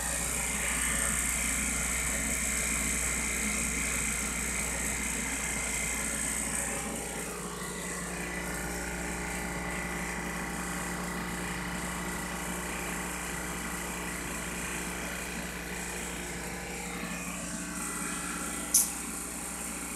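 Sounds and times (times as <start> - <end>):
vacuum pump running: 0.0 - 19.9.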